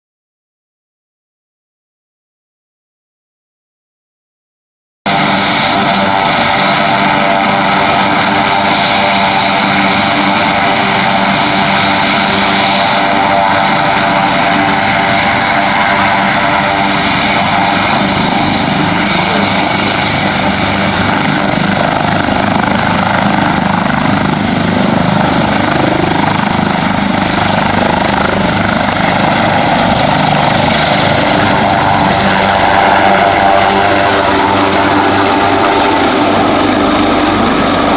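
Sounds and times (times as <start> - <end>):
helicopter rotor and engine: 5.1 - 37.9
high turbine whine: 5.1 - 37.9.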